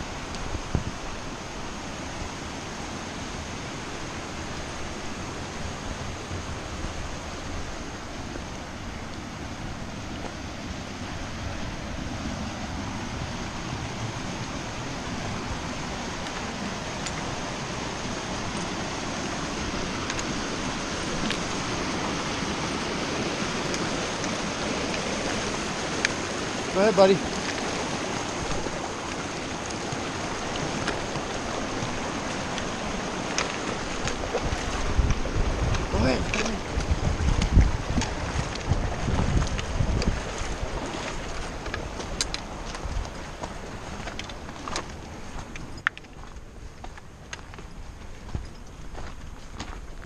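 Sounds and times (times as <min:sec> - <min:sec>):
creek rushing over rocks: 0:00.0 - 0:50.0.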